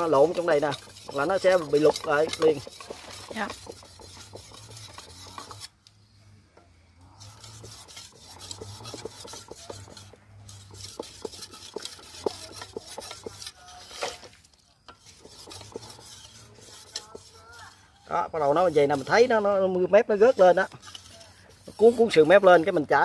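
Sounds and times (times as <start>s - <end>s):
blade scraping on whetstone: 0.0s - 5.8s, 7.1s - 23.0s.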